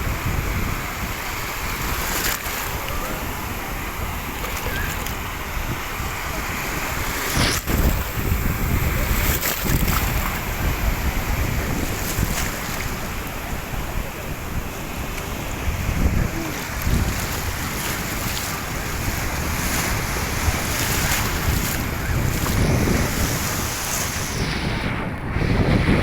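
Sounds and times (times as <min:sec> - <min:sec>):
wind and surf rushing: 0:00.0 - 0:26.0
wind buffeting microphone: 0:00.0 - 0:26.0.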